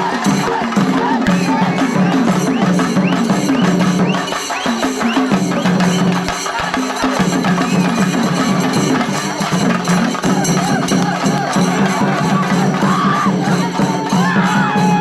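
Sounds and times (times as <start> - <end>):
fast stick drumming: 0.0 - 15.0.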